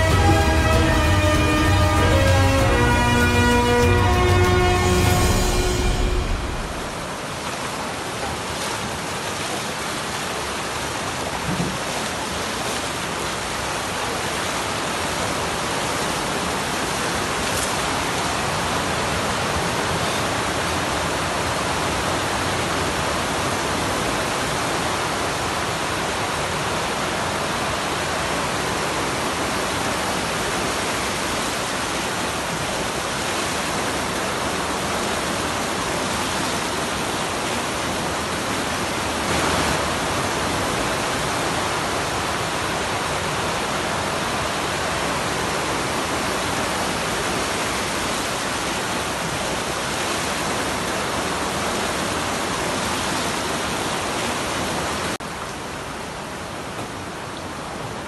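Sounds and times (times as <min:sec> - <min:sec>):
rushing floodwater: 0:00.0 - 0:58.0.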